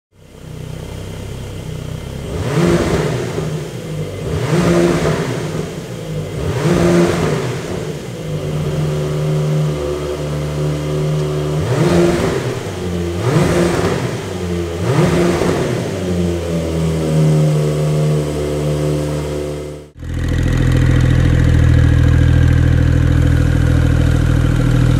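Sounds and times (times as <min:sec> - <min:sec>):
car engine idling and revving: 0:00.1 - 0:24.9.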